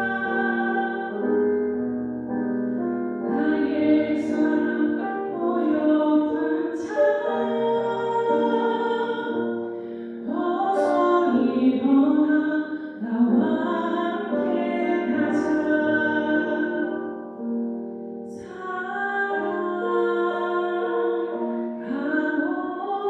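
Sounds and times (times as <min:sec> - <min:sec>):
woman singing a slow song: 0:00.0 - 0:01.5, 0:03.2 - 0:17.1, 0:18.3 - 0:23.0.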